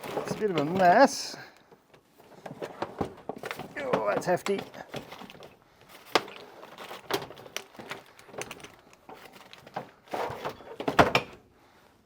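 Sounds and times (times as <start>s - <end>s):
rummaging rustle: 0.0s - 1.4s, 2.1s - 11.2s
objects knocking and clunking: 0.0s - 11.4s.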